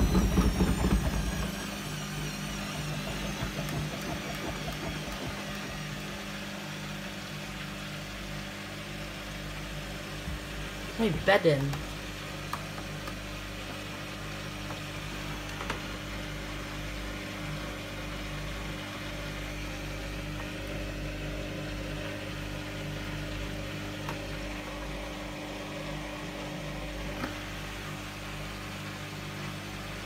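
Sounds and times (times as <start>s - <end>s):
washing machine motor humming: 0.0s - 30.0s.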